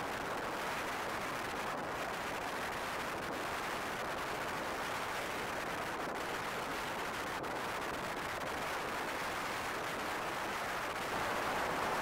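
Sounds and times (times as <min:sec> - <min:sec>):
wind rushing in a snowstorm: 0:00.0 - 0:12.0.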